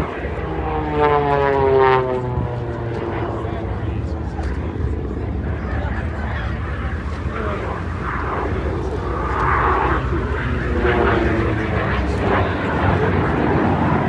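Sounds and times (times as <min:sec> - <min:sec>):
airplane engine droning overhead: 0:00.0 - 0:14.0.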